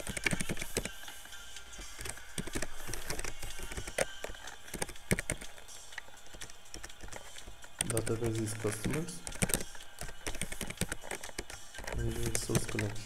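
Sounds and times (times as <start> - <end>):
keyboard keys clicking: 0.0 - 1.0, 1.8 - 13.0
background music: 0.0 - 13.0.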